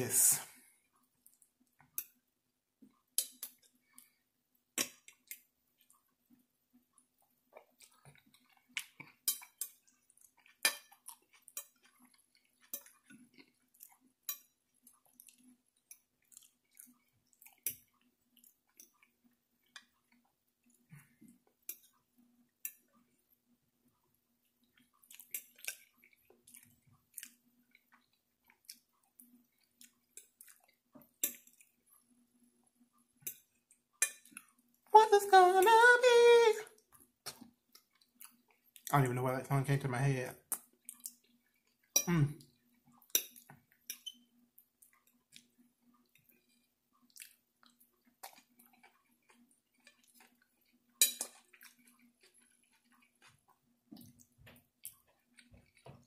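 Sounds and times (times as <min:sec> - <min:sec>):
person chewing soft food: 0:00.5 - 0:34.9, 0:36.8 - 0:38.9, 0:40.4 - 0:56.0.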